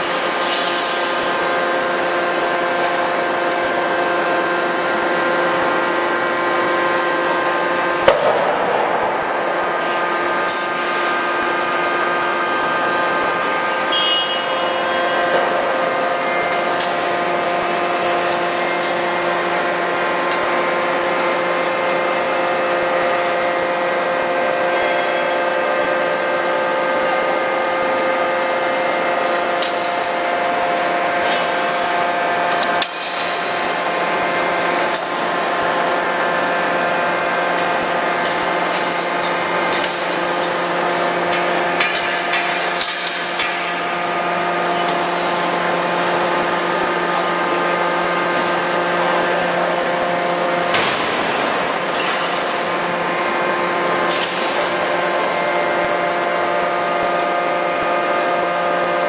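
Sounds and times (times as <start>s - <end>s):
forging machinery humming: 0.0s - 59.0s.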